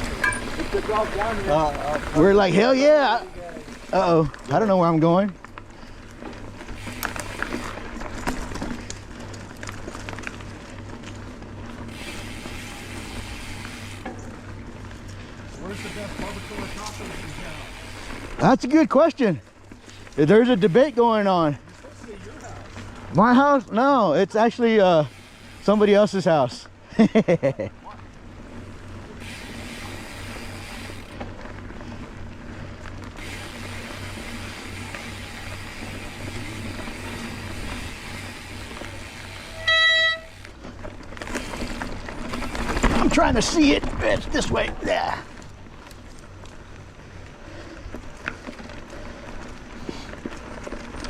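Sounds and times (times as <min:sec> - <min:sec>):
bike clicks and rattles: 0:00.0 - 0:51.0
bike tyres on dirt: 0:00.0 - 0:51.0.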